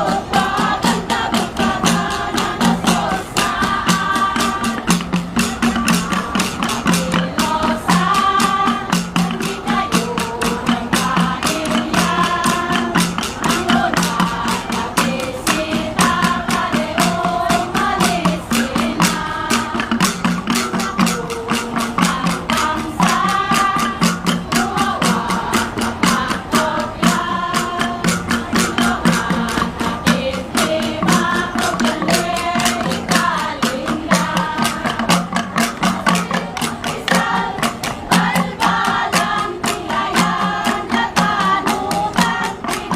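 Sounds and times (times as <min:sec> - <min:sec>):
gongs beaten rhythmically: 0:00.0 - 0:42.9
group singing: 0:00.0 - 0:42.9.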